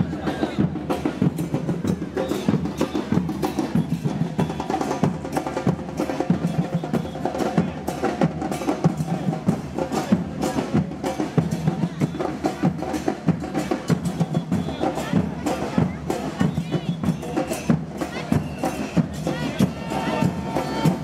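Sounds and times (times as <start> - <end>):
bass drums: 0.0 - 21.0
cymbals: 0.0 - 21.0
snare drums: 0.0 - 21.0.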